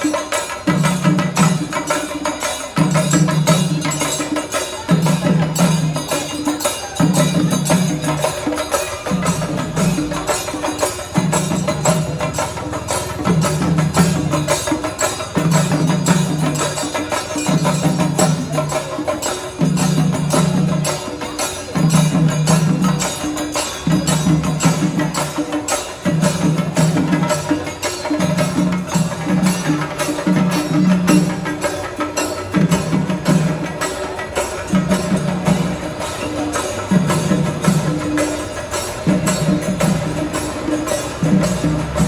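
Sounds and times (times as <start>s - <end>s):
fast drum and jingling strokes: 0.0s - 42.0s.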